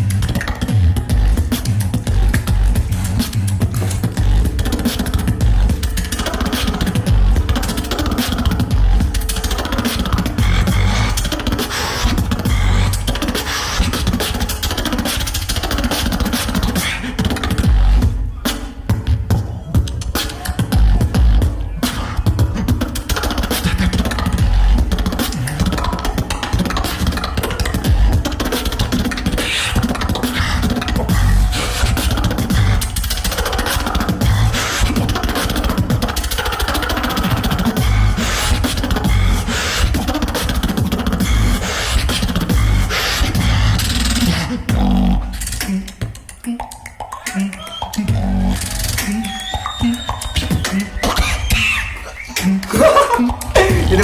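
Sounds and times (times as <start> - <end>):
beatboxing: 0.0 - 54.0.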